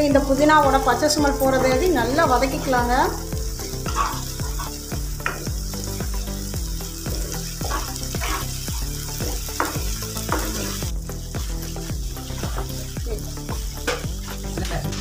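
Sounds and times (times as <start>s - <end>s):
paste sizzling in hot oil: 0.0s - 15.0s
wooden spatula stirring in pan: 0.5s - 15.0s.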